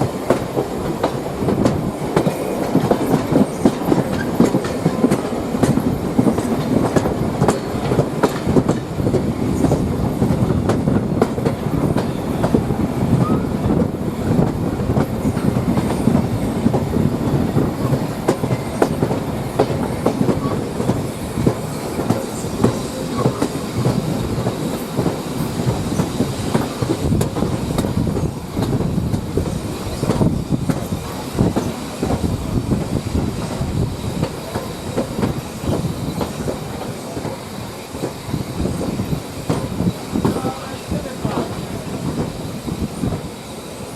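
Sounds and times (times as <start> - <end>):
train wheels rolling on track: 0.0 - 43.9.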